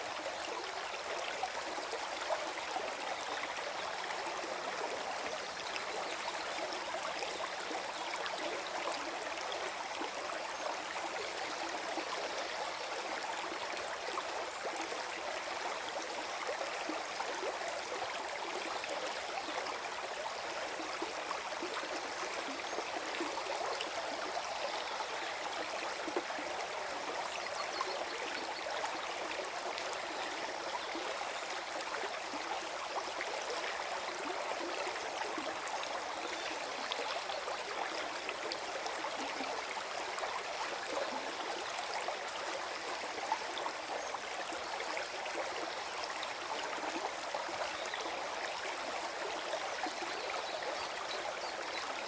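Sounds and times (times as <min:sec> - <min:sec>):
stream gurgling over stones: 0:00.0 - 0:52.0.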